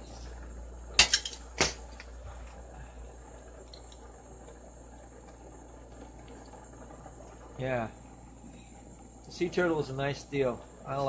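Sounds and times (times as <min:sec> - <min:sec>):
torch hissing: 0:00.0 - 0:11.0.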